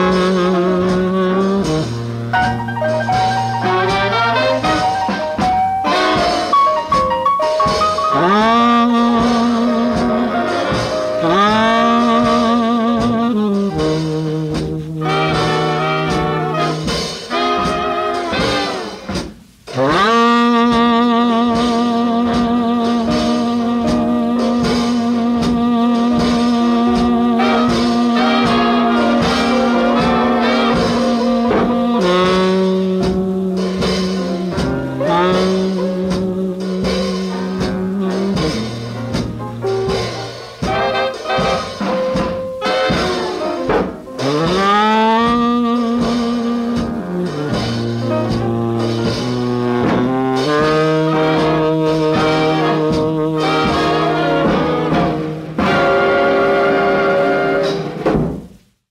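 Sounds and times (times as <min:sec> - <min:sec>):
bass line: 0:00.0 - 0:58.7
jazz band horn section chords: 0:00.0 - 0:58.9
steady beat: 0:00.0 - 0:58.9.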